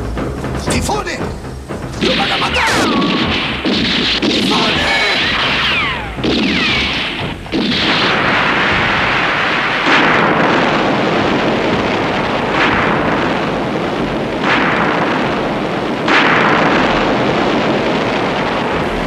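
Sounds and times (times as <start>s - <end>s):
explosion blasts: 0.0s - 19.0s.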